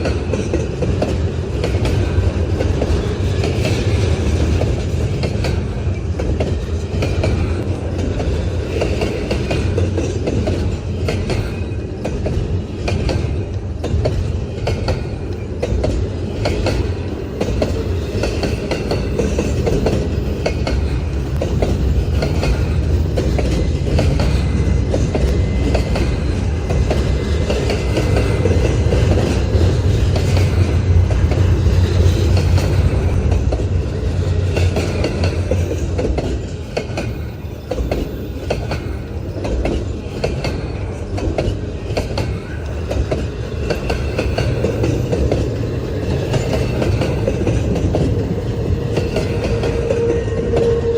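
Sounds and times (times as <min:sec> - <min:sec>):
train rumble: 0:00.0 - 0:50.9
train wheels clicking over rail joints: 0:00.0 - 0:50.9.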